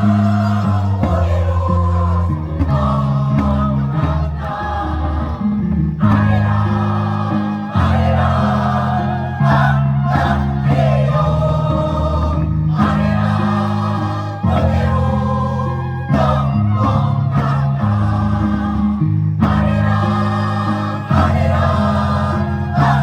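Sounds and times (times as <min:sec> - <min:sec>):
choir singing: 0:00.0 - 0:23.0
held low notes: 0:00.0 - 0:23.0.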